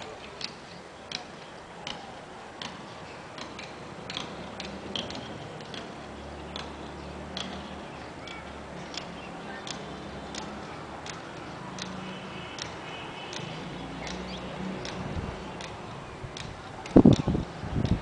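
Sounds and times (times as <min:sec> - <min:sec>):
light ticking: 0:03.4 - 0:18.0.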